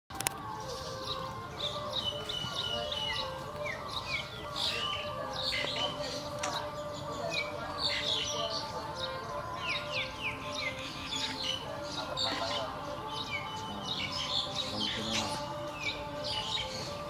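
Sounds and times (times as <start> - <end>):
birds chirping and twittering: 0.1 - 17.0.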